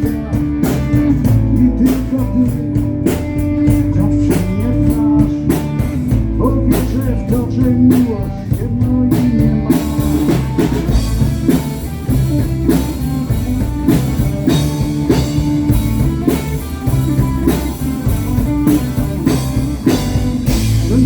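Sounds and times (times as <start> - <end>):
bass guitar: 0.0 - 21.0
drum kit beat: 0.0 - 21.0
electric guitar: 0.0 - 21.0.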